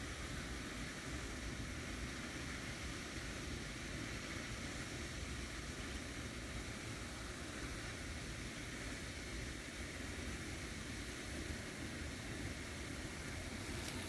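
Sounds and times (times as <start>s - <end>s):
hiss: 0.0s - 14.0s
low outdoor rumble: 0.0s - 14.0s.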